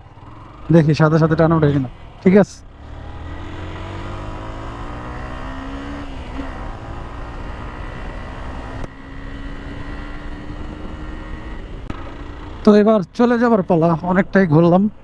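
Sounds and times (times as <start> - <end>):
motorcycle engine pulling: 0.0 - 13.4.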